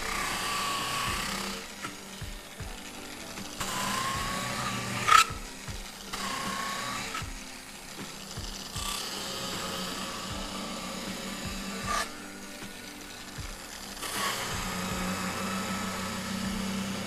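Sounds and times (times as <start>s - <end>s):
bench grinder whine: 0.0s - 17.0s
wood scraping on grinder wheel: 0.0s - 17.0s.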